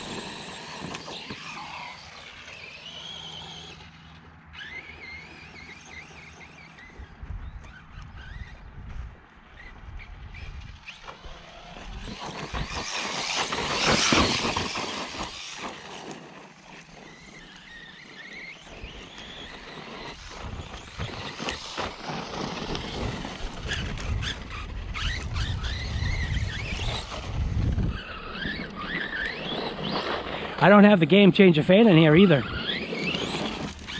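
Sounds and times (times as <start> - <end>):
electric motor whining: 0.0 - 33.9
tyres scrabbling on dirt: 0.0 - 33.9.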